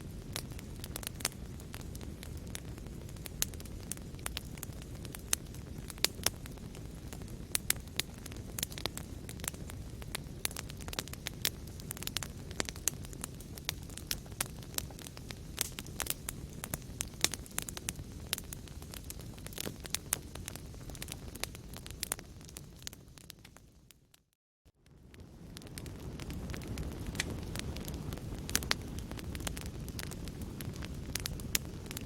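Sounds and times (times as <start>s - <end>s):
fire crackling and popping: 0.0s - 32.0s
low rumble of flames: 0.0s - 32.0s.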